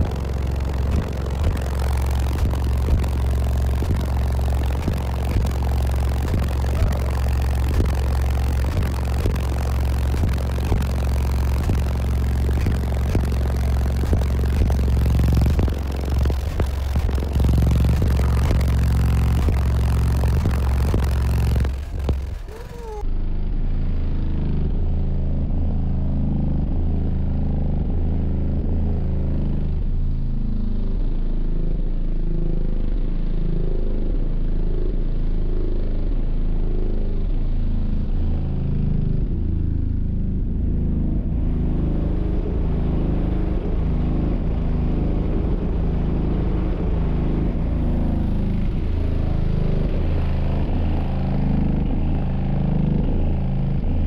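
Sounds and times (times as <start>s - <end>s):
bass-heavy music from subwoofers: 0.0s - 54.0s.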